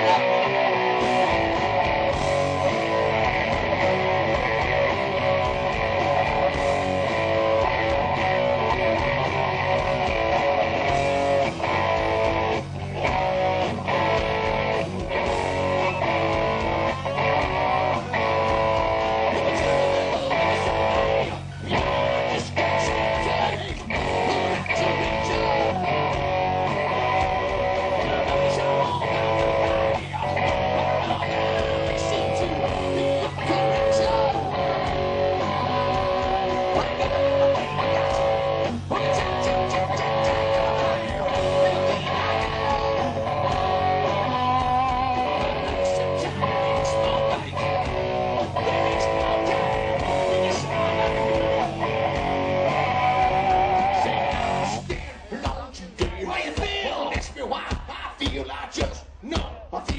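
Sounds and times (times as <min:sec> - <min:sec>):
electric guitar: 0:00.0 - 0:55.4
bass guitar: 0:00.0 - 0:59.9.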